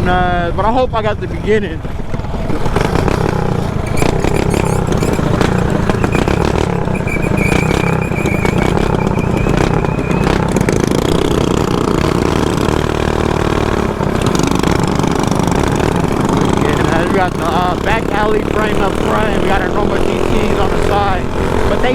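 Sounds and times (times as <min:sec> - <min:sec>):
small four-stroke engine running: 0:01.3 - 0:21.9.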